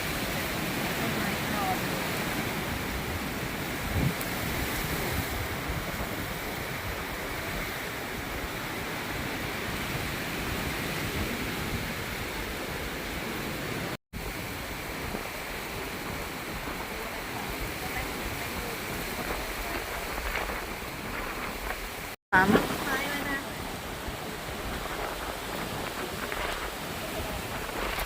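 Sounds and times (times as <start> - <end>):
storm wind buffeting microphone: 0.0 - 28.0.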